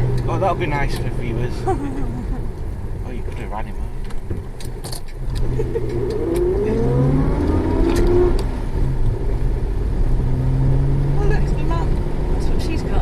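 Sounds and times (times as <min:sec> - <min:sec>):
car engine accelerating: 0:00.0 - 0:13.0
road noise inside car: 0:00.0 - 0:13.0.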